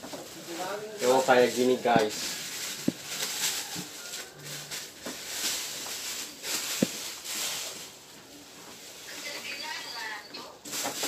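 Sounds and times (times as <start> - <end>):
bubble wrap rustling: 0.0 - 11.0.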